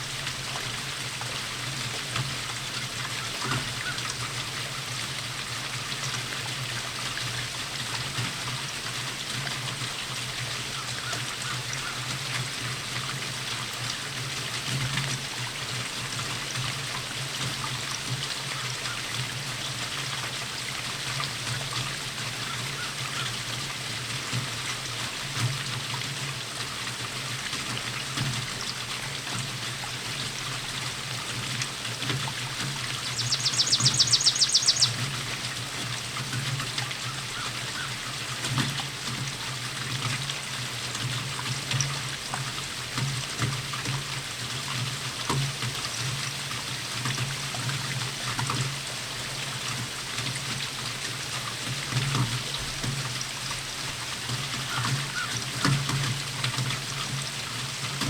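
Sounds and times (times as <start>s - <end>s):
small drips: 0.0s - 58.0s
steady rainfall: 0.0s - 58.0s
water trickling: 0.0s - 58.0s.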